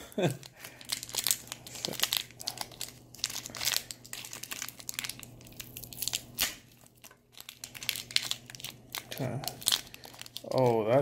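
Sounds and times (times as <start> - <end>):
plastic wrapper crinkling: 0.2 - 11.0.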